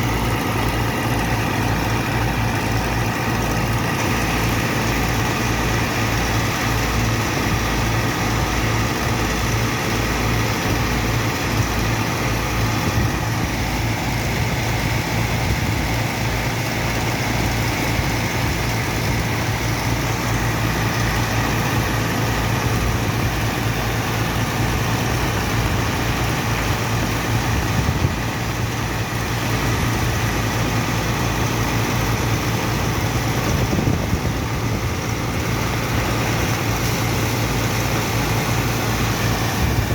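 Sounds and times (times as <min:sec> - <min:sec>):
heavy engine humming: 0:00.0 - 0:39.9.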